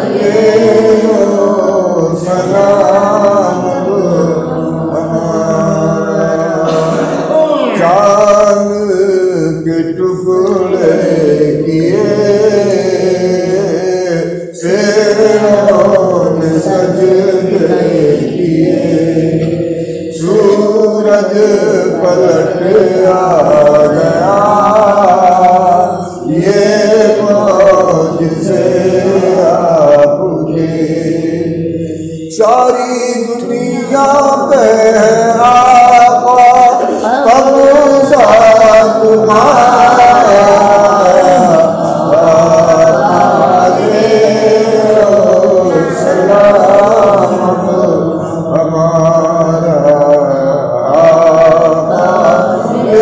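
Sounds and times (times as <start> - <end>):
man chanting devotional recitation: 0.0 - 53.0.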